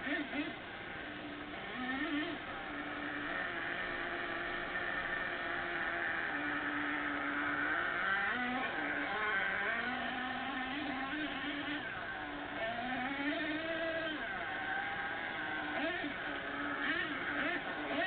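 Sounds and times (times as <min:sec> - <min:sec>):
remote-control truck nitro engine: 0:00.0 - 0:18.0.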